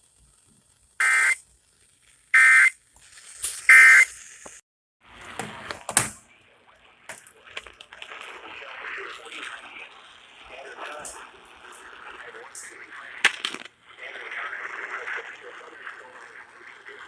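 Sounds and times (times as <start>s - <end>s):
noisy crackle and clicks: 0.0s - 3.7s, 5.9s - 17.0s.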